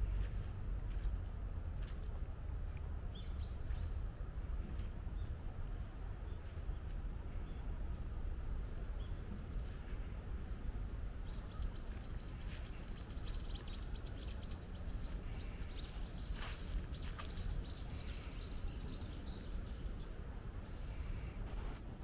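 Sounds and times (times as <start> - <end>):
low wind rumble: 0.0 - 22.0
small birds chirping: 3.1 - 22.0.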